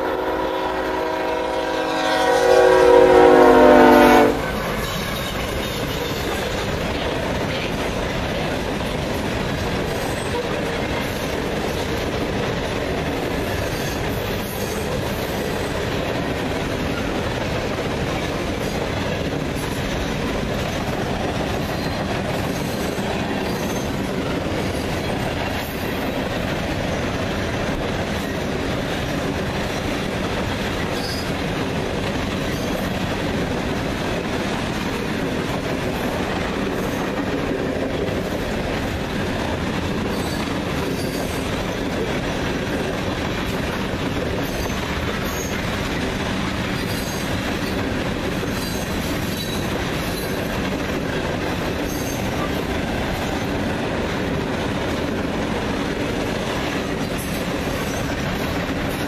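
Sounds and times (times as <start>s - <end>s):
freight train wagons on rails: 0.0s - 59.0s.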